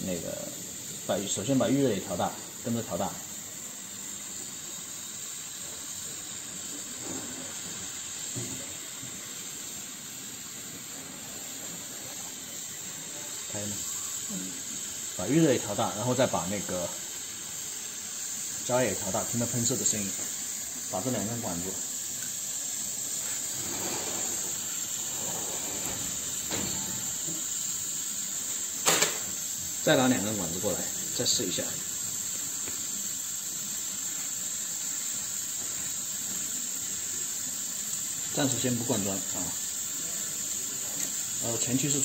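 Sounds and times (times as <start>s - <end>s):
gas burner jets hissing: 0.0s - 42.0s.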